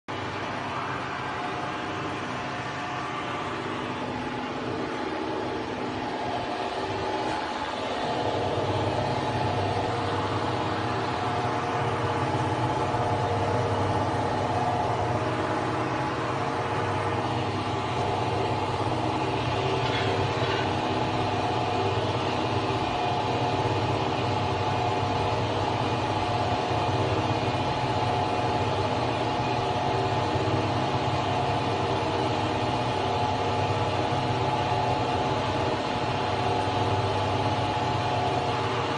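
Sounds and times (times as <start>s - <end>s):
bottle washing machine humming: 0.1s - 38.9s.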